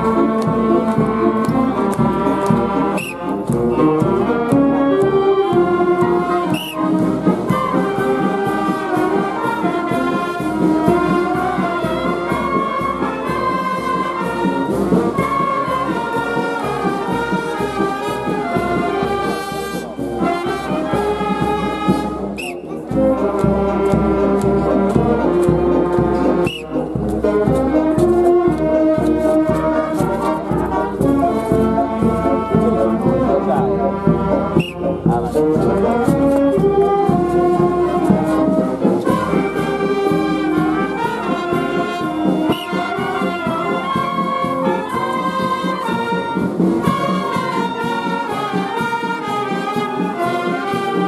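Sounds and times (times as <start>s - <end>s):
steady drum beat: 0.0s - 51.0s
trombones and trumpets: 0.0s - 51.0s.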